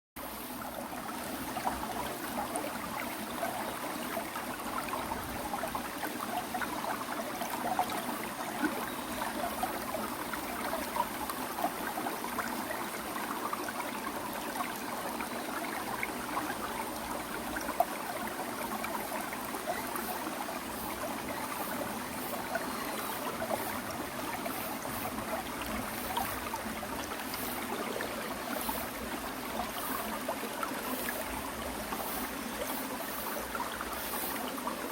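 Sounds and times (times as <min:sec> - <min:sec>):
water rushing: 0:00.4 - 0:34.9.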